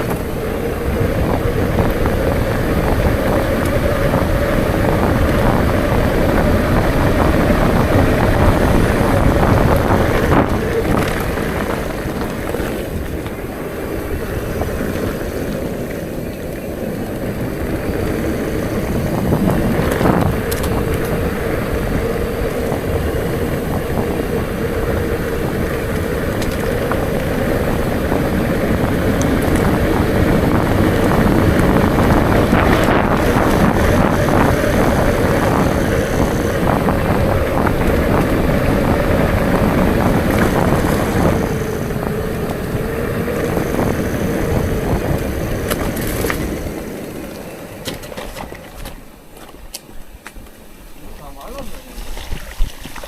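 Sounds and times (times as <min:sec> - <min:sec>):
rattles and clicks: 0:00.0 - 0:13.5, 0:14.5 - 0:50.6
steady hum: 0:00.0 - 0:48.1
bicycle tyres rolling on rough road: 0:00.0 - 0:53.0
wind rushing over microphone: 0:00.0 - 0:53.0.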